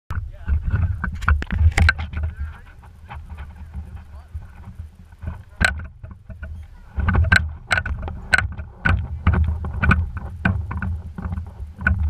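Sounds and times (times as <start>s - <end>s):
low rumble: 0.1s - 12.0s
sharp knocks and clicks: 0.1s - 12.0s.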